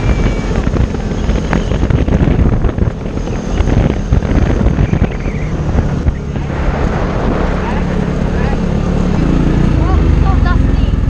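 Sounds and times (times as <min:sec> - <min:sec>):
buggy engine running: 0:00.0 - 0:11.0
wind buffeting microphone: 0:00.0 - 0:11.0.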